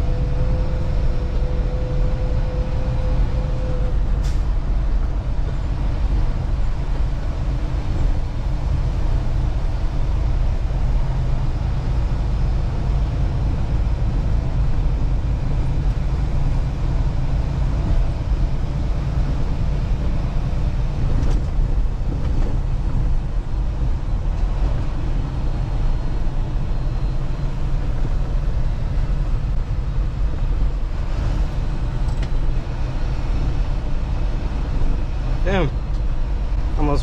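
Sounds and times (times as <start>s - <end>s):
truck diesel engine rumble: 0.0s - 37.0s.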